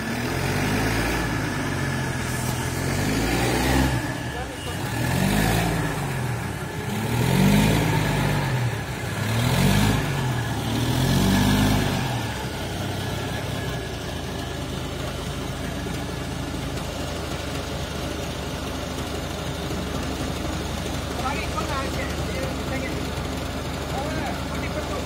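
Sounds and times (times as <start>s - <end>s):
forklift engine revving and idling: 0.0s - 25.0s.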